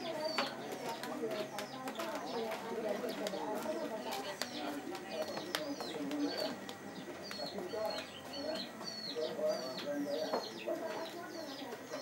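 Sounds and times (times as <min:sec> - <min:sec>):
birds chirping falling notes: 0:00.0 - 0:12.0.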